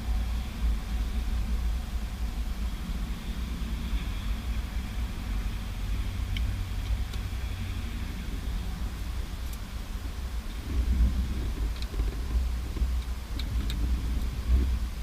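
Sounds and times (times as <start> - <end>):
faint hiss: 0.0 - 15.0
steady low rumble: 0.0 - 15.0.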